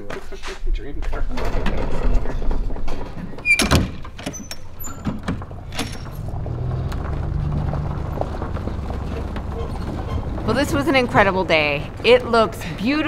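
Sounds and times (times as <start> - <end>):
trailer ramp door thunk: 1.4 - 12.4.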